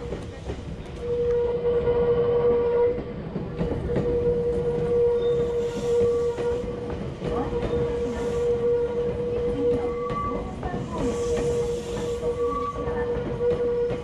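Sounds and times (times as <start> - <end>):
electric train whine: 0.0 - 14.0.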